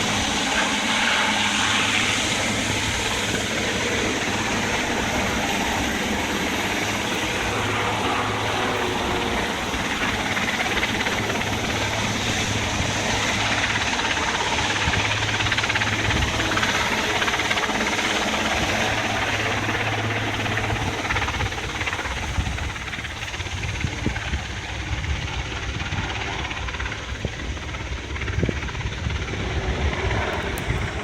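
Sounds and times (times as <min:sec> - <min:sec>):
aircraft engine rumble and hiss: 0:00.0 - 0:31.0.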